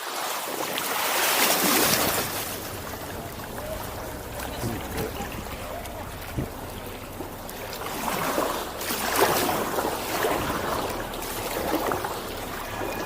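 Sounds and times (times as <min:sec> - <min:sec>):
kayak paddle strokes in water: 0:00.0 - 0:13.0
water trickling off paddle: 0:00.0 - 0:13.0.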